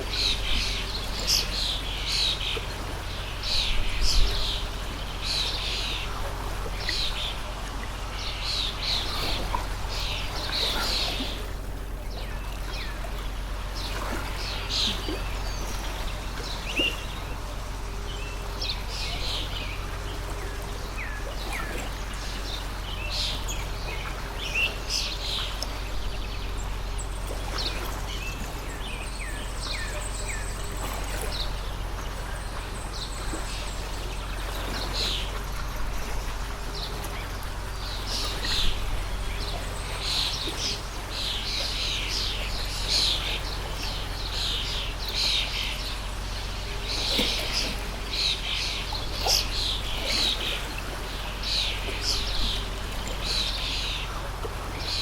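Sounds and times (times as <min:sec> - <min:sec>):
small birds chirping: 0:00.0 - 0:55.0
stream running: 0:00.0 - 0:55.0.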